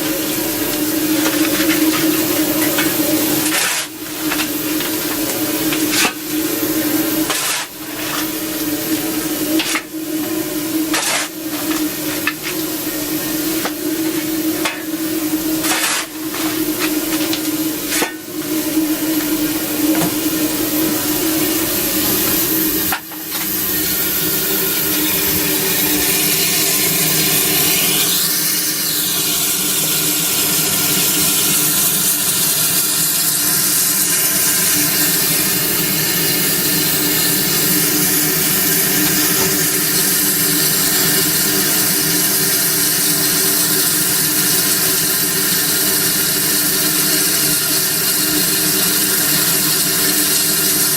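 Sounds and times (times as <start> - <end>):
steam hissing: 0.0 - 50.9.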